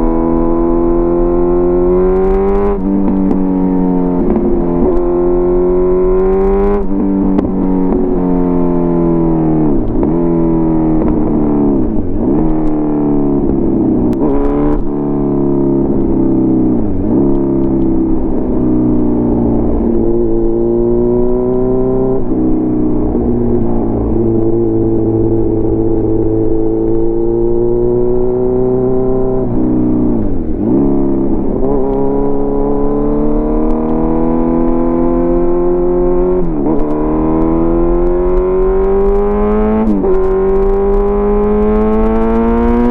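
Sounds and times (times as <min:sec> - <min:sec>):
motorcycle engine under load: 0:00.0 - 0:42.9.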